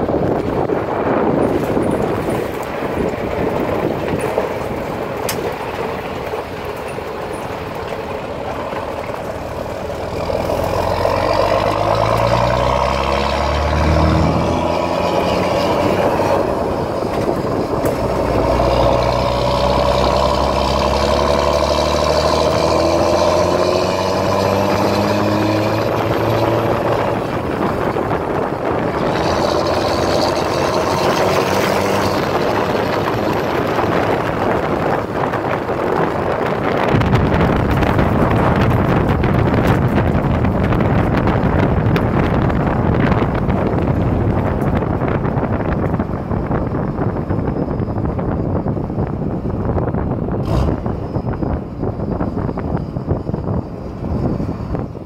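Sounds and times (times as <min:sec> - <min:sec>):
diesel truck engine accelerating: 0:00.0 - 0:55.0
wind noise on microphone: 0:00.0 - 0:55.0.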